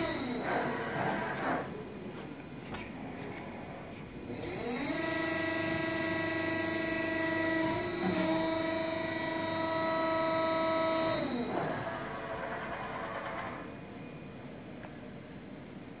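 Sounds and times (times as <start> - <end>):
hydraulic press motor whining: 0.0 - 13.8.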